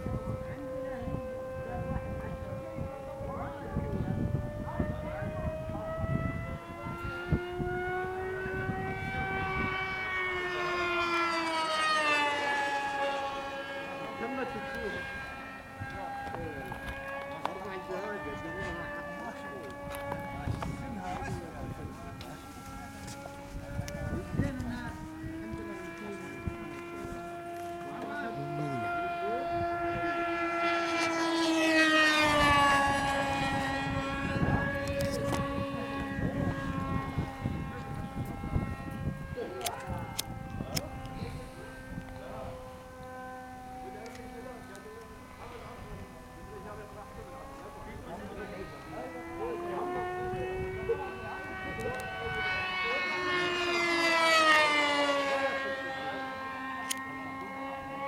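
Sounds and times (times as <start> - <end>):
model airplane motor droning: 0.0 - 58.0.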